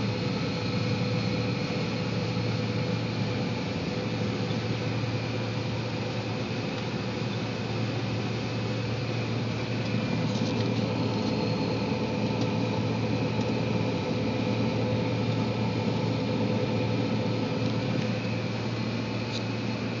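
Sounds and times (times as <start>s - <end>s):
combine harvester hum inside cab: 0.0s - 20.0s.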